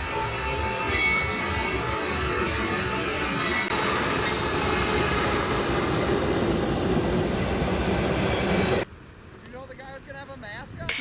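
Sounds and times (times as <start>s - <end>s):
freight train wheels on rails: 0.0s - 8.9s.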